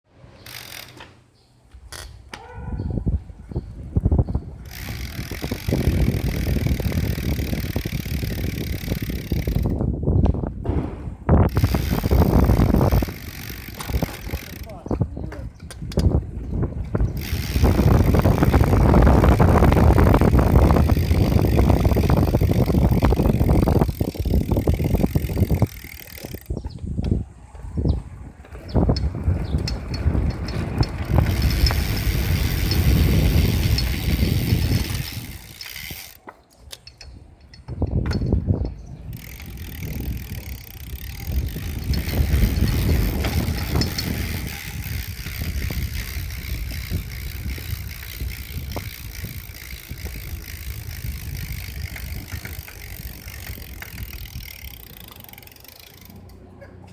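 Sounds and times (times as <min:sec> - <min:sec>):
bicycle freehub ratcheting: 0:00.4 - 0:01.1, 0:01.8 - 0:02.3, 0:03.7 - 0:10.4, 0:11.4 - 0:56.5.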